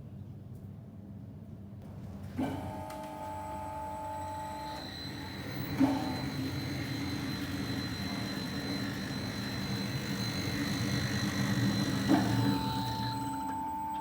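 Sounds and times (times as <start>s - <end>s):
sawmill machine hum: 1.9s - 14.0s.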